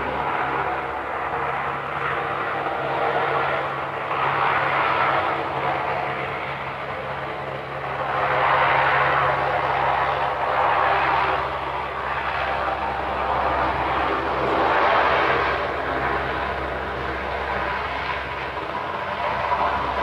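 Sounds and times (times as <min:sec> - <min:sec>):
low propeller drone: 0:00.0 - 0:20.0
rushing engine whine: 0:00.0 - 0:20.0.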